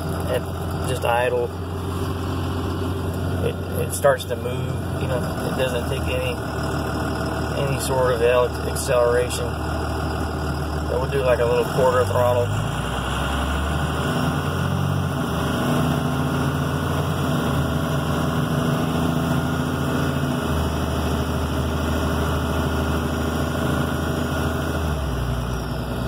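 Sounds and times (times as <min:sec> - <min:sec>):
diesel engine accelerating: 0:00.0 - 0:26.0.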